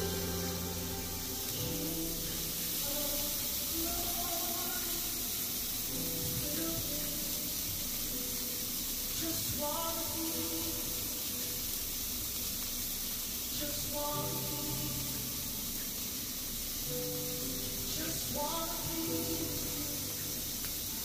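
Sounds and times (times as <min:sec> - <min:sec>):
food sizzling on a grill: 0:00.0 - 0:21.0.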